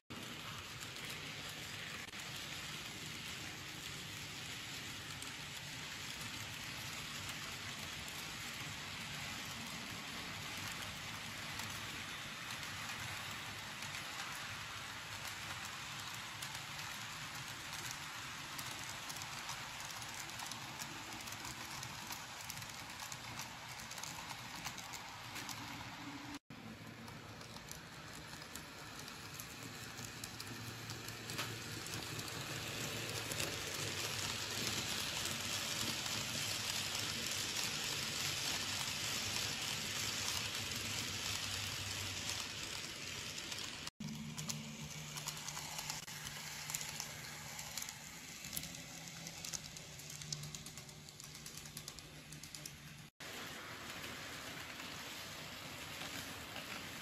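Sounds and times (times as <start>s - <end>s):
model train wheels rattling: 0.1s - 57.0s.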